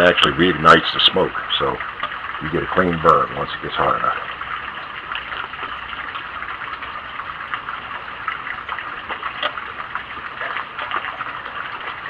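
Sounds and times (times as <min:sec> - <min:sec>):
fire crackling and popping: 0:00.0 - 0:12.0
stove fire rushing draft: 0:00.0 - 0:12.0.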